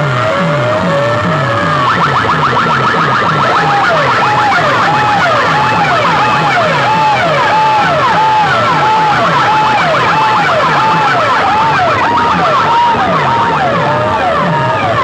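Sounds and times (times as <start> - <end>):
electronic siren whooping: 0.0 - 15.0
pulsing bass: 0.0 - 15.0.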